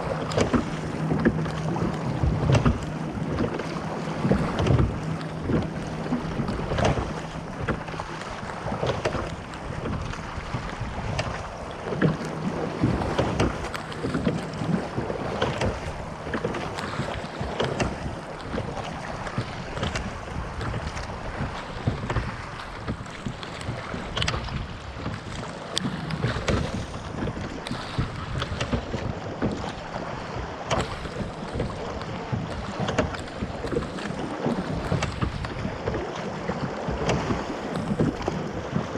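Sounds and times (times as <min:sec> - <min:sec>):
oar knock and splash: 0:00.0 - 0:38.9
water washing along hull: 0:00.0 - 0:38.9
wind on microphone: 0:00.0 - 0:38.9.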